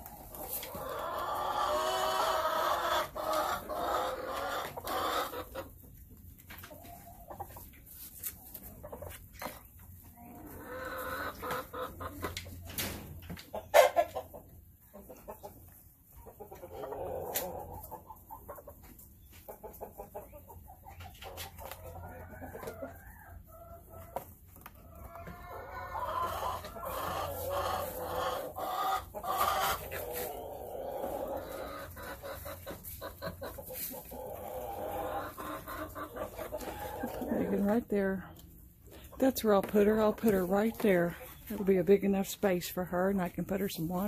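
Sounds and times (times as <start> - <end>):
hens clucking: 0.0 - 44.0.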